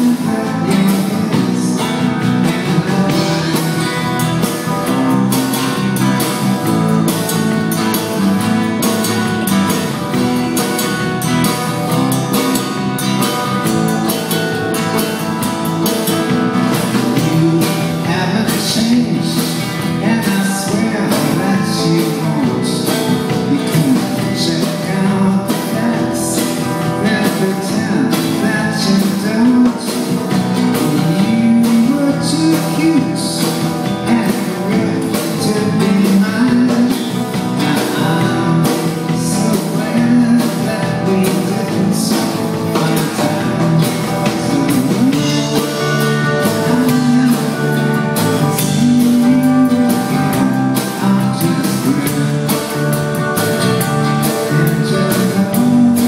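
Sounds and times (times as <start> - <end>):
person singing: 0.0 - 5.6, 15.8 - 56.0
acoustic guitar: 0.0 - 56.0
drums keeping a beat: 0.0 - 56.0.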